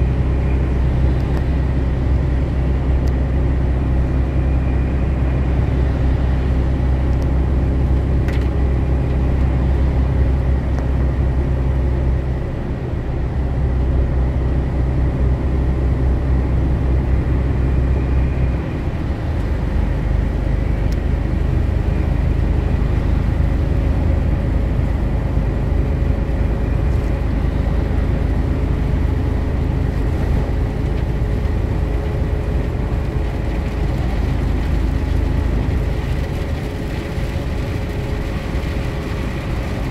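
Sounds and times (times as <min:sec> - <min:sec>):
road noise: 0:00.0 - 0:39.9
truck engine drone: 0:00.0 - 0:39.9.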